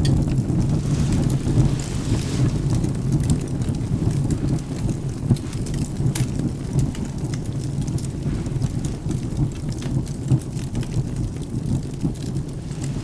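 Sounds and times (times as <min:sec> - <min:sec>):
rain: 0:00.0 - 0:13.0
wood fire crackling: 0:00.0 - 0:13.0.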